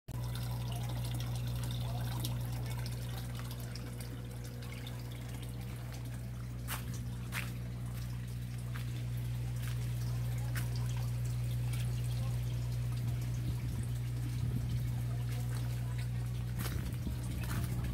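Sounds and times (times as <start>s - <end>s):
steady low hum: 0.2s - 17.9s
water splashing and dripping: 0.2s - 17.9s.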